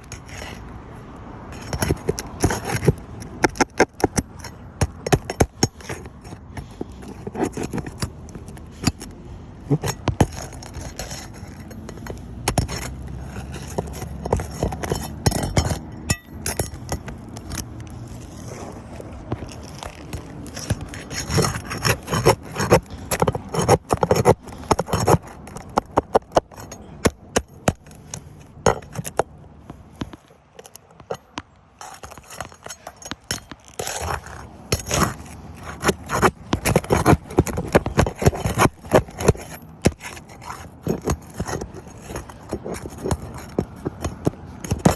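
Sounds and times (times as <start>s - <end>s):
pry tool scraping shingles: 0.0s - 44.9s.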